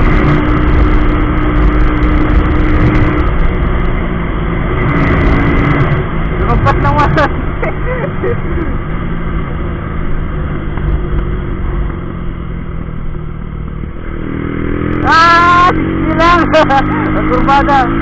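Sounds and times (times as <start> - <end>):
motorcycle engine at high speed: 0.0 - 18.0.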